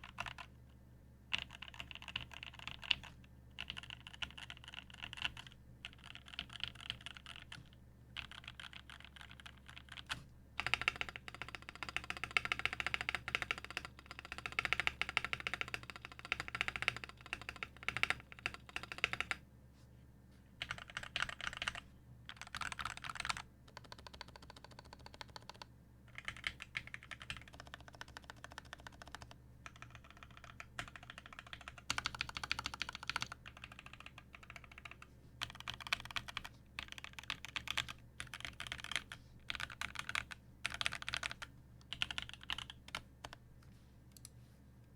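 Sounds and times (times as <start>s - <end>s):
typing on mechanical keyboard: 0.0s - 0.5s, 1.3s - 19.4s, 20.6s - 43.4s.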